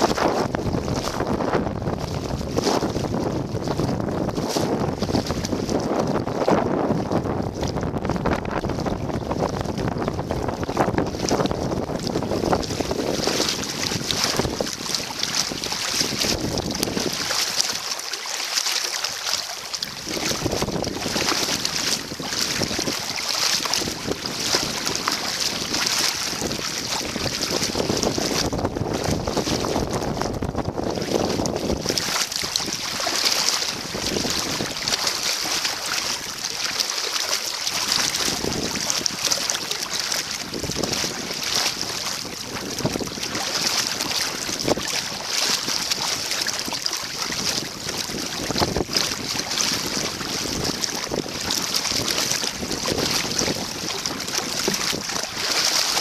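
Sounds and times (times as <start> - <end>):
wind buffeting microphone: 0.0 - 17.9, 19.8 - 36.8, 37.7 - 56.0
water lapping and splashing: 0.0 - 56.0.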